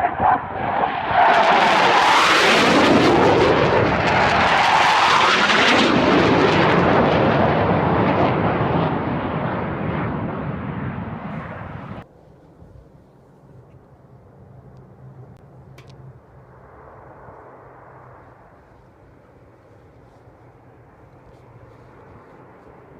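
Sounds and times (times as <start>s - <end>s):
jet roaring past: 0.0s - 12.2s, 13.6s - 22.9s.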